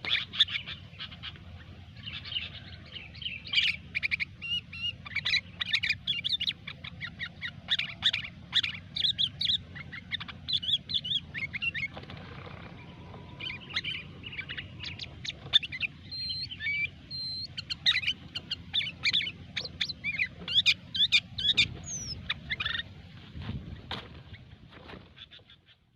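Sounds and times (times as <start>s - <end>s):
bulbul chattering chirps and trills: 0.0s - 25.9s
low steady hum: 0.0s - 25.9s.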